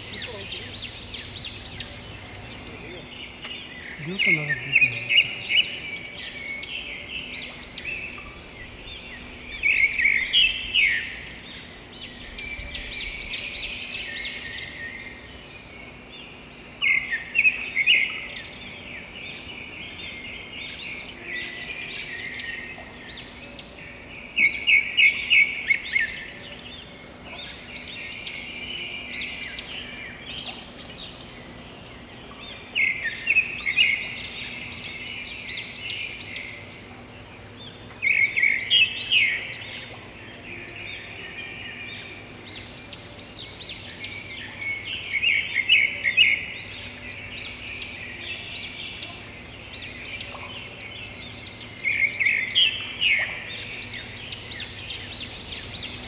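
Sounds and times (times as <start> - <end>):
birds chirping and whistling: 0.0 - 56.0
faint steady hum: 0.0 - 56.0.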